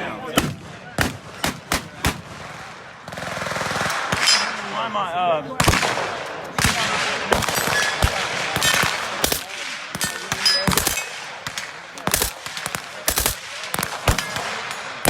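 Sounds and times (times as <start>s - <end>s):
gunshots with echo: 0.3s - 15.0s.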